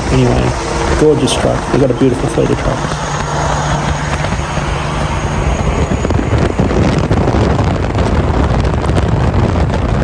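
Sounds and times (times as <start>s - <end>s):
road and wind noise inside vehicle: 0.0s - 10.0s
truck running alongside: 0.0s - 10.0s.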